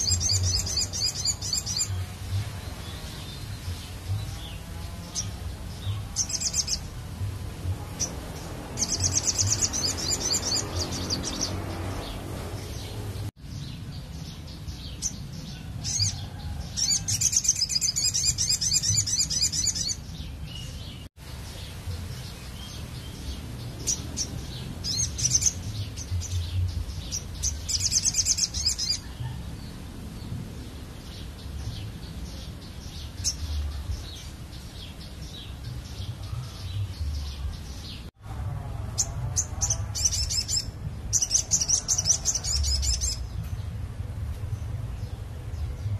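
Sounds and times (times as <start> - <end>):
bird singing buzzy trills: 0.0 - 38.1.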